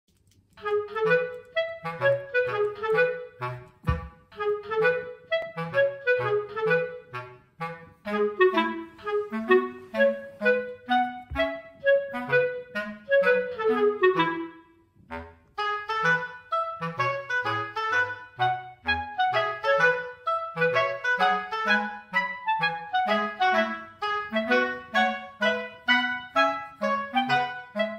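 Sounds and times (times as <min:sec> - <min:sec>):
light bouncy background music: 0:00.6 - 0:27.9.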